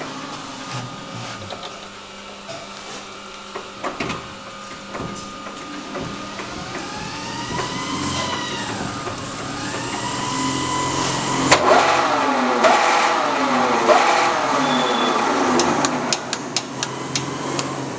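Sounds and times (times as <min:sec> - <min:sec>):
lathe mechanical whine: 0:00.0 - 0:17.9.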